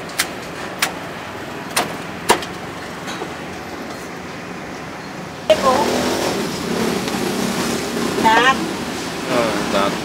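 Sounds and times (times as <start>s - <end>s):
street traffic hum: 0.0s - 10.0s.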